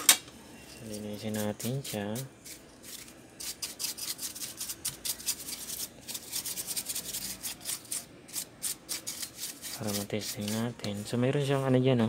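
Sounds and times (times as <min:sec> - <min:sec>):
small brush scrubbing: 0:00.7 - 0:11.8.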